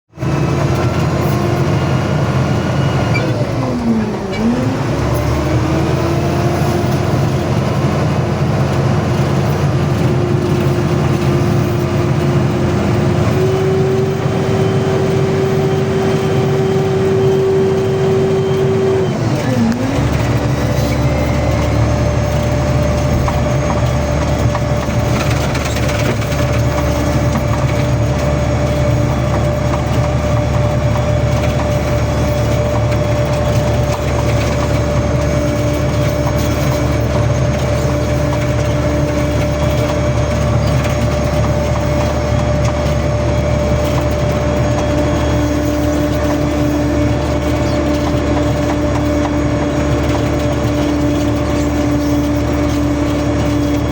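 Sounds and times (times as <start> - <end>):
engine low drone: 0.1 - 53.9.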